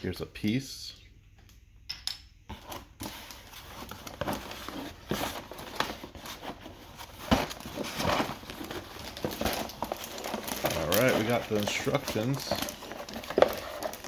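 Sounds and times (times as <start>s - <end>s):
plastic bags and paper rustling: 2.6s - 14.0s.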